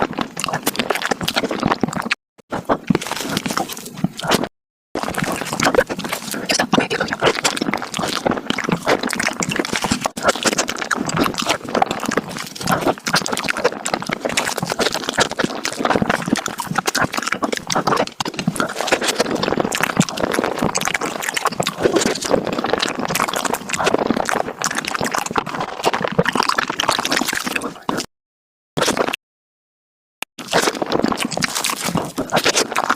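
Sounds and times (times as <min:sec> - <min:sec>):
chewing smacking and slurping: 0:00.0 - 0:28.1, 0:28.8 - 0:29.2, 0:30.4 - 0:32.9.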